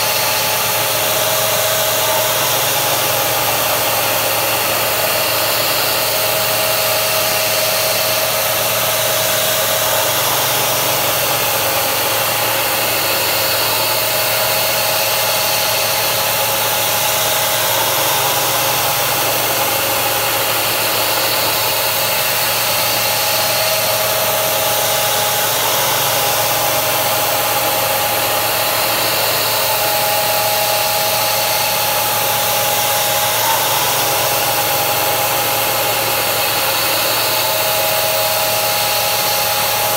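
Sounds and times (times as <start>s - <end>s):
milling machine whining: 0.0s - 39.9s
mist coolant sprayer hissing: 0.0s - 39.9s.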